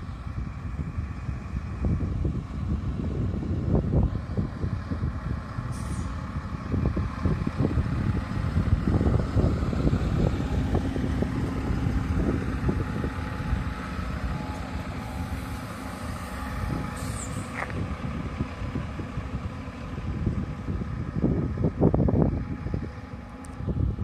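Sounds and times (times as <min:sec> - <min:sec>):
diesel engine rumbling: 0:00.0 - 0:24.0
train wheels on track: 0:00.0 - 0:24.0.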